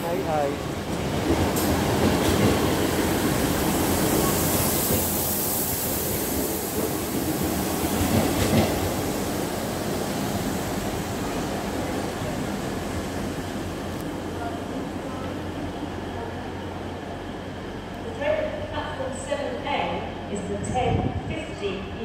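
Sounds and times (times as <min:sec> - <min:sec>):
diesel train engines running: 0:00.0 - 0:22.0
train wheels rumbling on rails: 0:00.0 - 0:22.0.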